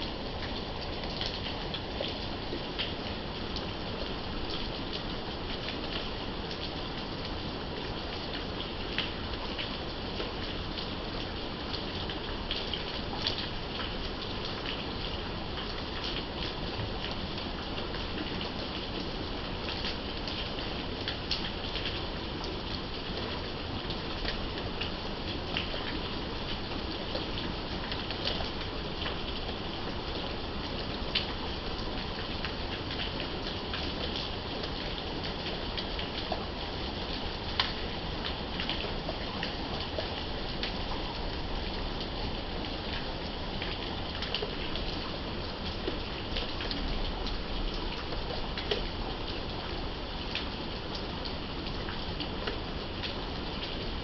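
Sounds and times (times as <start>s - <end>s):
rain falling: 0.0s - 54.0s
raindrops ticking on hard surfaces: 0.0s - 54.0s.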